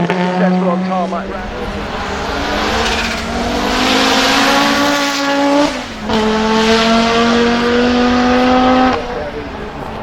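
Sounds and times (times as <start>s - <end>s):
turbocharged car engine accelerating: 1.0s - 10.0s.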